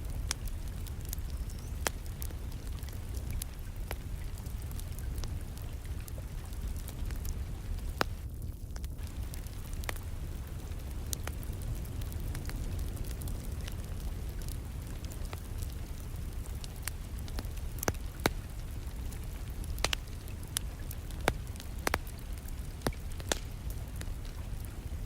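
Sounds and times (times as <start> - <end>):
steady rain: 0.0 - 25.0
wood fire crackling: 0.0 - 25.0.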